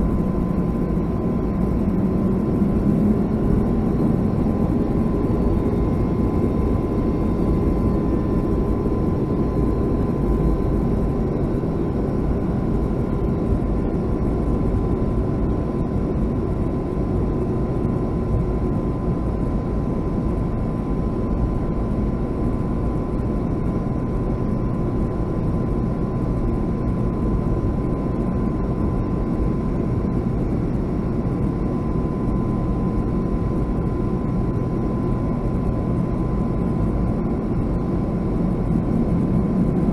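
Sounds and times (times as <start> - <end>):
jet engines low rumble: 0.0 - 39.9
thin steady whine: 0.0 - 39.9.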